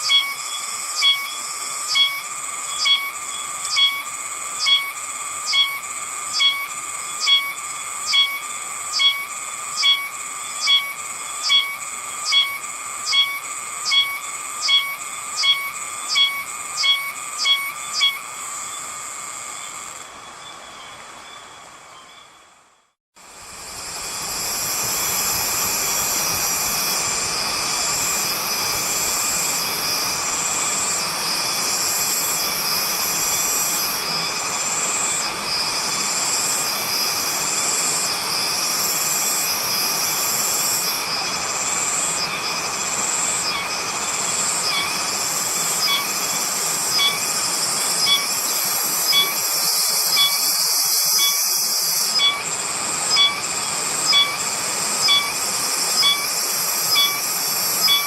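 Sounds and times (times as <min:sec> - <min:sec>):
cicadas buzzing: 0:00.0 - 0:22.5, 0:23.2 - 0:58.0.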